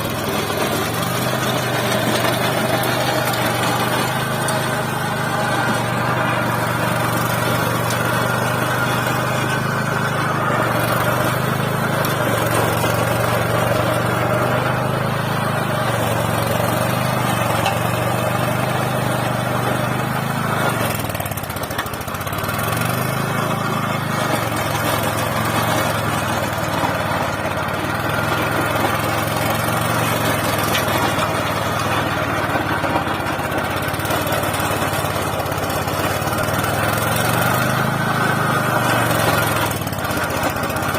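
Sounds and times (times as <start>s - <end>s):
tiller engine running: 0.0s - 40.9s.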